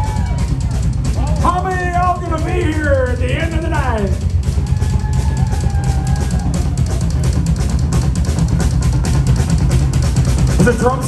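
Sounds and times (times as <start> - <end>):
loud rock band playing: 0.0 - 11.0.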